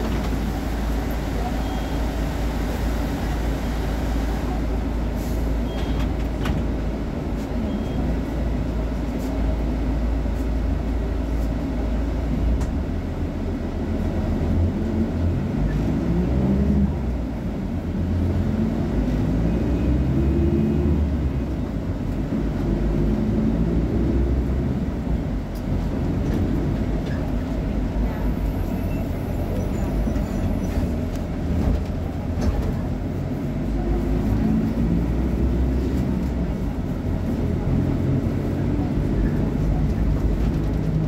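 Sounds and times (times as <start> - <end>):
bus diesel engine rumbling: 0.0 - 41.0.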